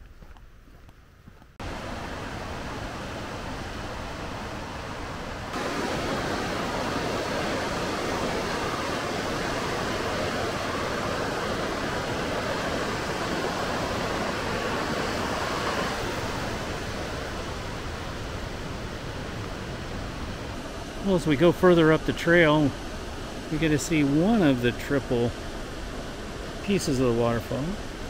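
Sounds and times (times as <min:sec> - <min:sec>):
waterfall rushing: 0:01.6 - 0:28.0.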